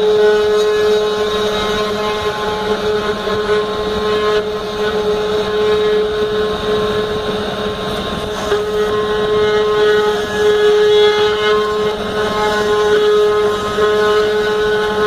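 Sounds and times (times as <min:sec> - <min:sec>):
end mill cutting wood: 0:00.0 - 0:15.0
router spindle motor whining: 0:00.0 - 0:15.0.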